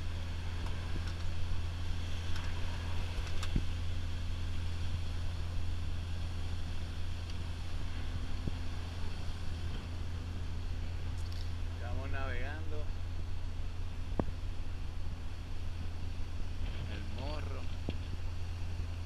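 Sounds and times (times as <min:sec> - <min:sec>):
motor yacht engines droning: 0:00.0 - 0:19.0
steady hiss: 0:00.0 - 0:19.0.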